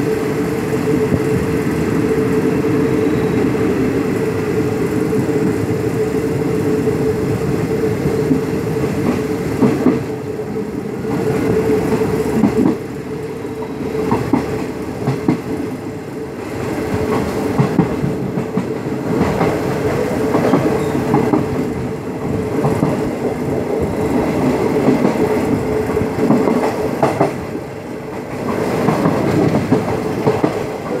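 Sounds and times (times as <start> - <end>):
train rumble and hum: 0.0 - 31.0.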